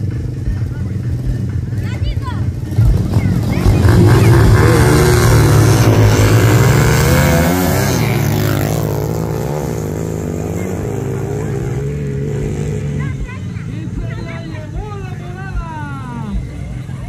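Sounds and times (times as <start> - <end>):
motorcycles revving and accelerating: 0.0 - 17.0.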